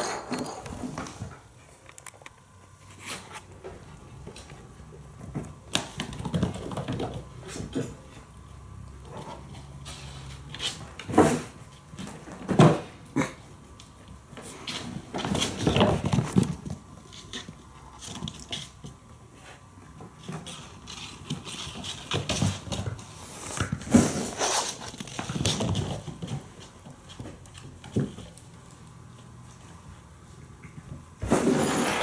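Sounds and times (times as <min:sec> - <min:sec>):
kittens scampering on wooden floor: 0:02.9 - 0:13.1, 0:13.7 - 0:31.6.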